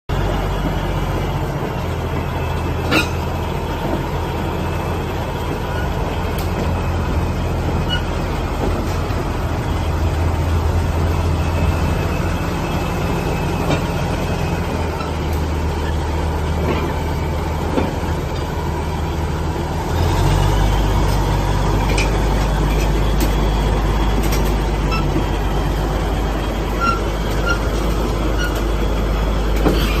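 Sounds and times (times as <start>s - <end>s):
bulldozer diesel engine running: 0.1s - 30.0s.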